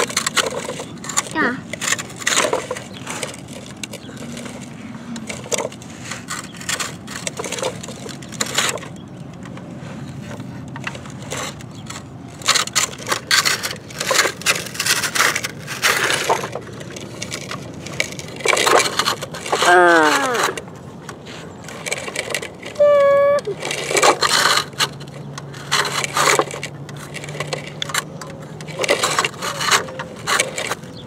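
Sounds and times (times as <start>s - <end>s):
toy bucket scraping sand: 0.0s - 9.0s, 9.6s - 31.0s.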